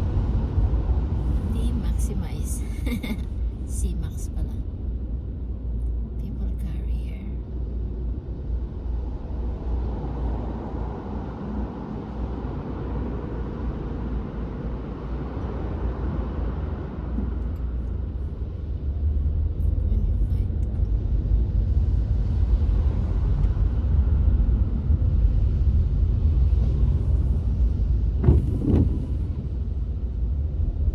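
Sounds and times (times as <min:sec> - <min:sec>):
car road noise rumble: 0:00.0 - 0:30.9.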